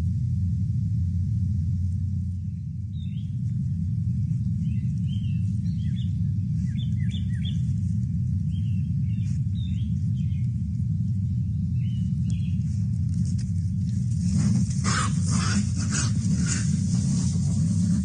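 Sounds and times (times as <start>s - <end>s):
steady low rumble: 0.0s - 18.0s
wild birds chirping: 2.2s - 18.0s.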